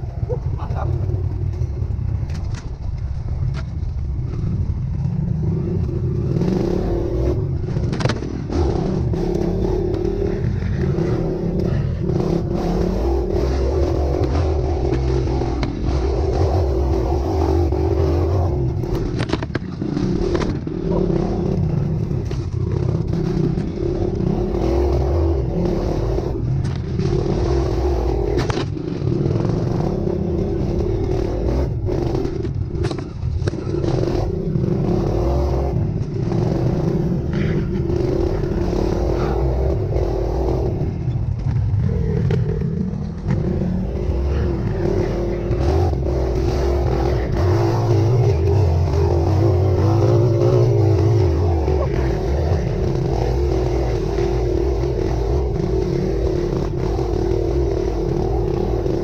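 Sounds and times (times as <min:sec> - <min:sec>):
vehicle engine under load: 0:00.0 - 0:59.0.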